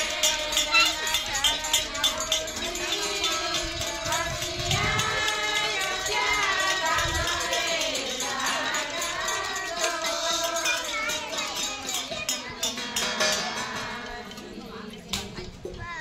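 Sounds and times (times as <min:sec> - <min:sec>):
jingling percussion: 0:00.0 - 0:15.7
voices singing devotional song: 0:00.0 - 0:16.0.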